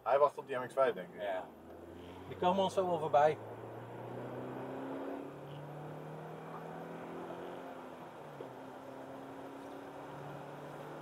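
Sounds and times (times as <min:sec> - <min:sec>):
car engine droning: 0:00.1 - 0:11.0.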